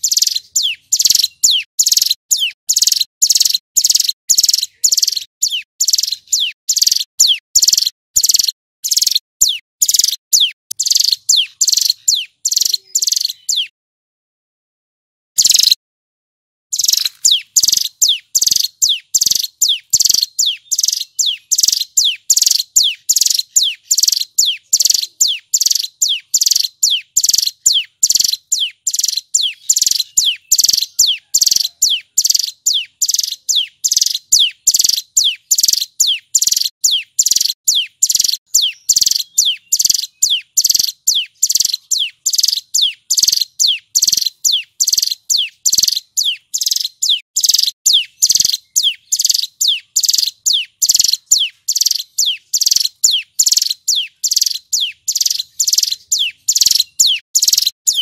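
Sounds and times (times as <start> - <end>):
bird singing sharp high notes: 0.0 - 13.7, 15.4 - 15.8, 16.8 - 58.0.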